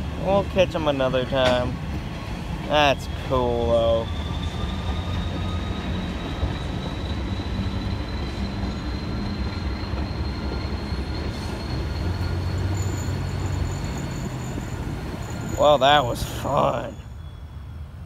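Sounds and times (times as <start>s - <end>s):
train wheels rumbling: 0.0s - 18.0s
high wheel squeal: 2.1s - 18.0s.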